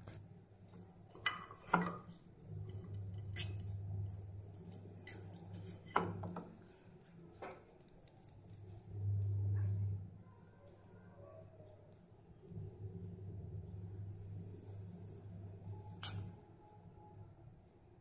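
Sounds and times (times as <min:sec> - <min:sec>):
low steady hum: 0:00.0 - 0:10.8, 0:11.9 - 0:18.0.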